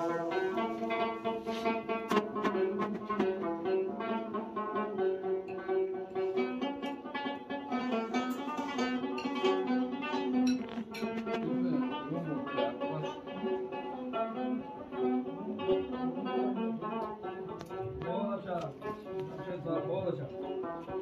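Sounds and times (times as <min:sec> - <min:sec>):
plucked string melody with drone: 0:00.0 - 0:21.0.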